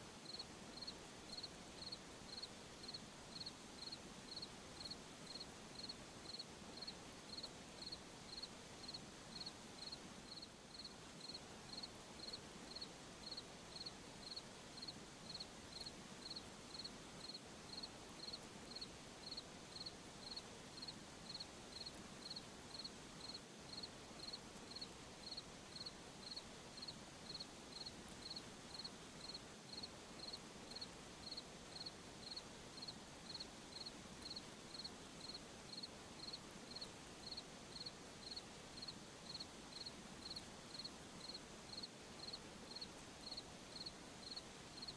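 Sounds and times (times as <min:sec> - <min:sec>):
hiss of night insects: 0:00.0 - 0:44.9
cricket chirping: 0:00.2 - 0:44.9.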